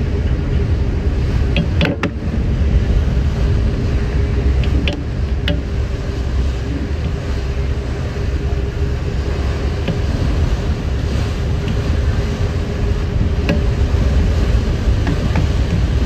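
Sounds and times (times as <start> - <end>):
ferry engine rumble: 0.0 - 16.0
water rushing past hull: 0.0 - 16.0
wind buffeting microphone: 0.0 - 16.0.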